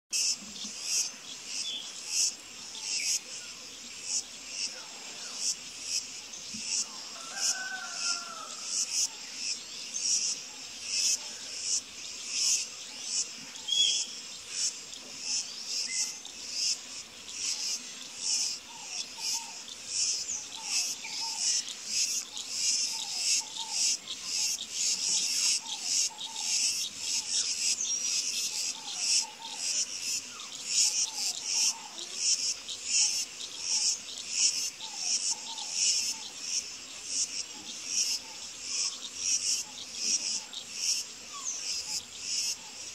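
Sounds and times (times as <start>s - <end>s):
insects chirping in pulsing chorus: 0.1s - 42.9s.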